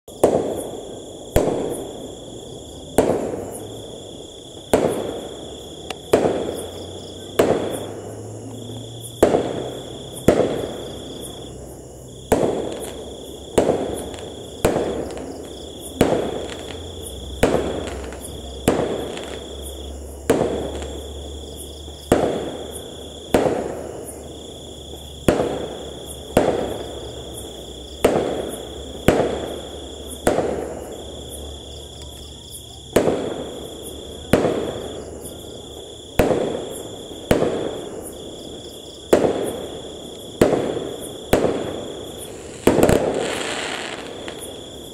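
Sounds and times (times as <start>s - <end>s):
fireworks bangs echoing: 0.1s - 11.5s, 12.2s - 31.5s, 32.9s - 44.9s.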